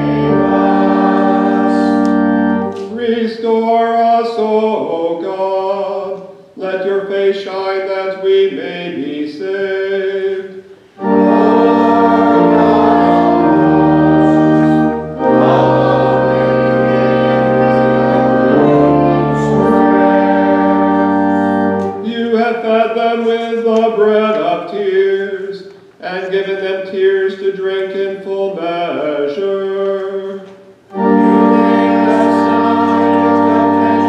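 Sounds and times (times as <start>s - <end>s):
church organ chords: 0.0s - 25.6s, 26.2s - 34.0s
man chanting: 2.8s - 20.8s, 22.0s - 34.0s.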